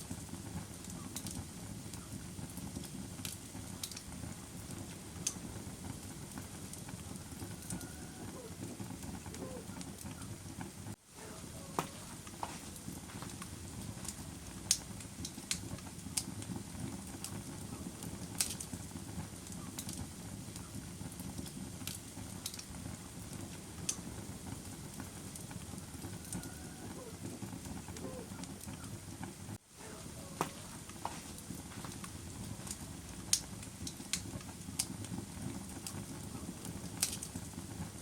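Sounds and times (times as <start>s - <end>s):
wood bonfire crackling: 0.0s - 38.0s.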